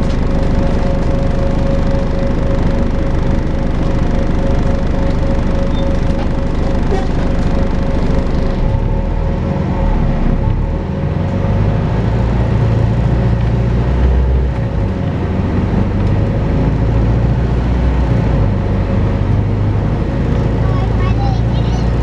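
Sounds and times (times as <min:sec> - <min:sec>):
bus diesel engine drone with whine: 0:00.0 - 0:22.0.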